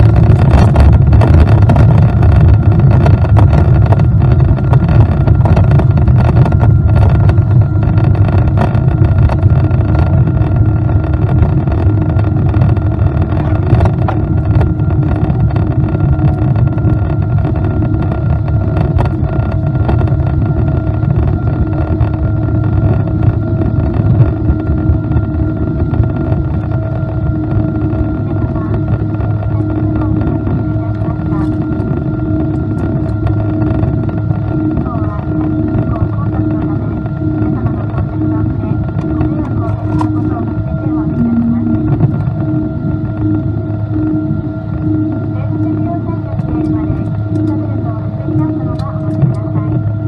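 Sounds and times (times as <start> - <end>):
jet engine cabin rumble: 0.0 - 50.0.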